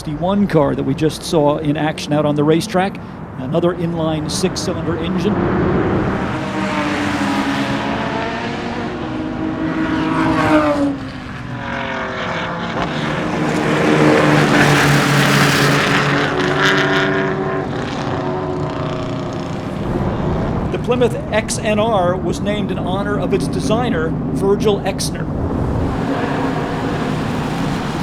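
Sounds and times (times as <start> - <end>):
car engine running hard: 1.4 - 28.0.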